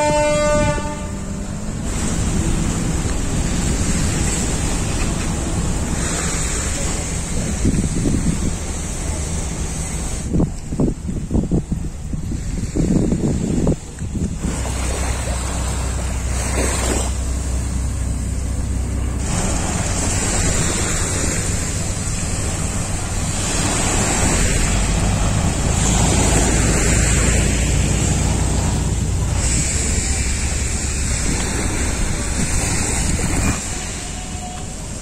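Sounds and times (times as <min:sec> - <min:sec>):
small waves washing onto sand: 0:00.0 - 0:35.0
wind rumbling on microphone: 0:00.0 - 0:35.0.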